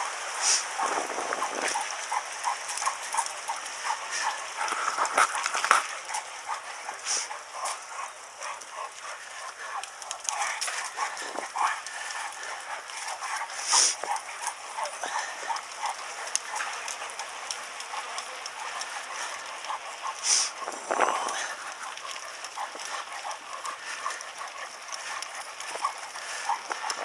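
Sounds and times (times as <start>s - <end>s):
bicycle tyres hissing on wet ground: 0.0s - 27.0s
dog paws tapping on pavement: 0.1s - 27.0s.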